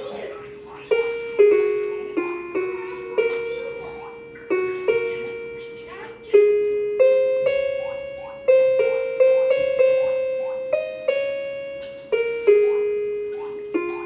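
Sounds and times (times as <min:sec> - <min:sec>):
electronic keyboard harp melody: 0:00.0 - 0:14.0.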